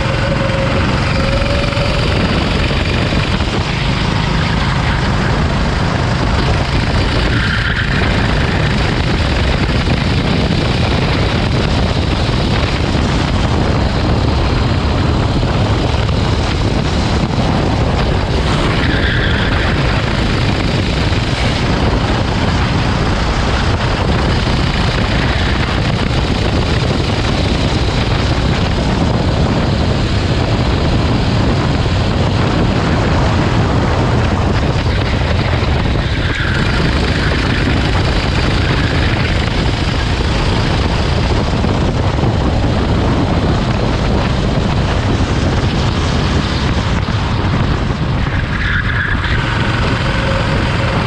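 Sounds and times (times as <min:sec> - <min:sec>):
kart engine running: 0:00.0 - 0:51.0
wind on microphone: 0:00.0 - 0:51.0.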